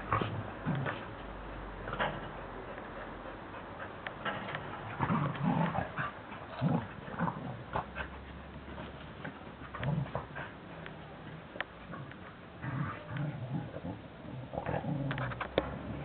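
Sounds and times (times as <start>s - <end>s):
dogs growling while playing: 0.0s - 16.0s.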